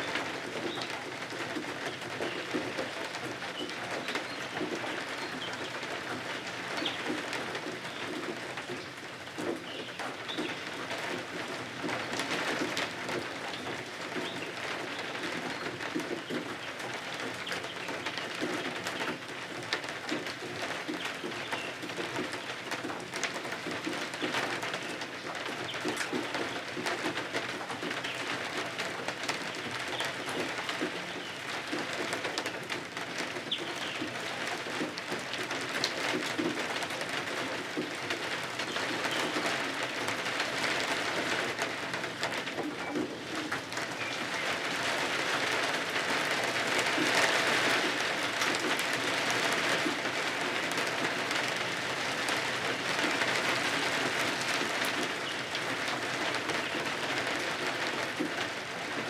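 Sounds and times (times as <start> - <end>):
small irregular ticks and crackles: 0.0 - 59.0
steady rain: 0.0 - 59.0.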